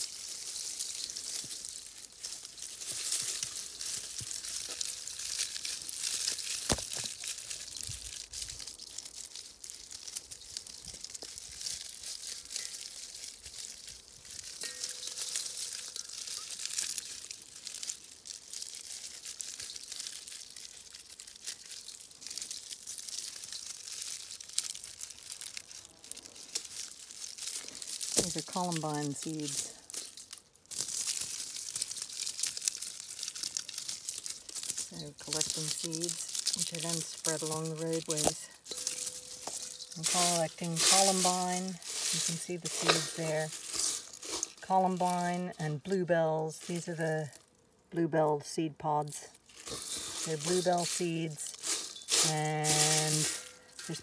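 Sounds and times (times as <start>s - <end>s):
dry seed heads crackling and rustling: 0.0s - 54.0s.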